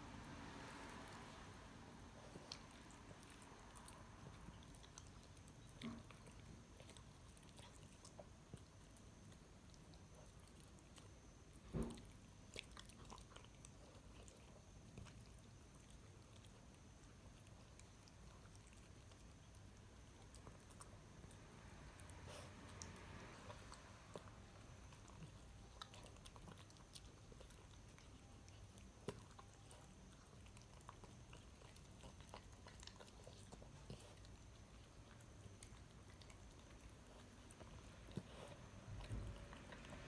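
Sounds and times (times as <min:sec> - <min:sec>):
dog chewing food: 0:00.2 - 0:40.0.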